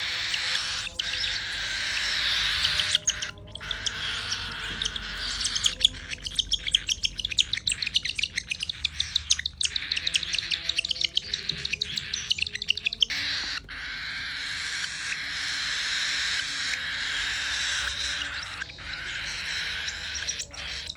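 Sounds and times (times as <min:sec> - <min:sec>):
background bird chatter: 0:00.0 - 0:20.9
cockatiels chirping and squawking: 0:00.0 - 0:20.9.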